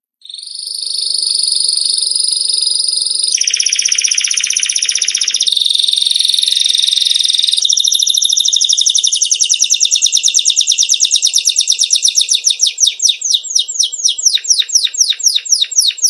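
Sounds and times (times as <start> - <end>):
songbird trilling and whistling: 0.2 - 16.0.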